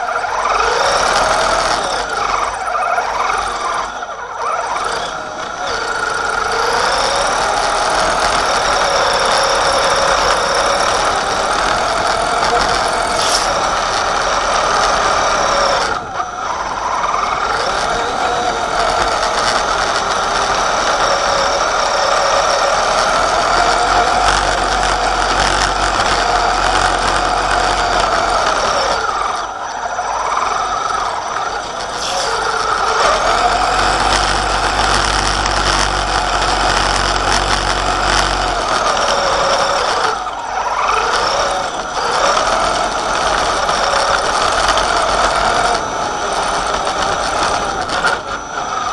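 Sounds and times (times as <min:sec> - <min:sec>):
electric motor whining: 0:00.0 - 0:48.9.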